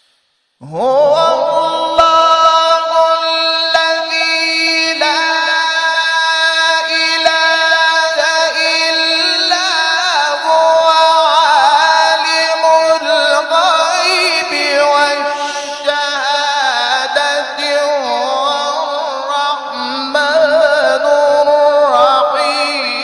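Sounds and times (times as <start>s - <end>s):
man reciting melodically: 0.6s - 23.0s.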